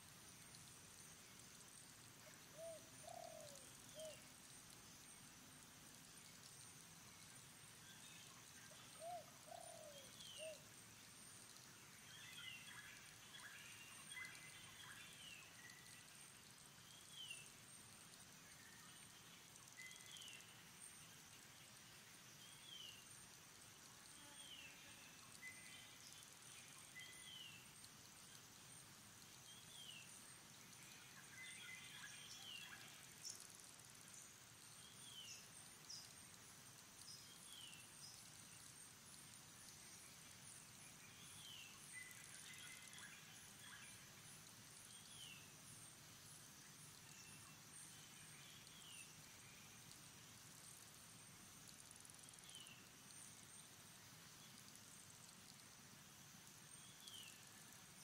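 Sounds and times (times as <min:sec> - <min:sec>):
insect hiss: 0:00.0 - 0:58.0.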